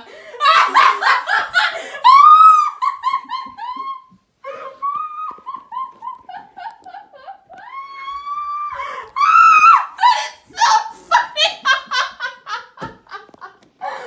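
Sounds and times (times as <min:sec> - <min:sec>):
woman laughing in squeals: 0:00.4 - 0:12.6.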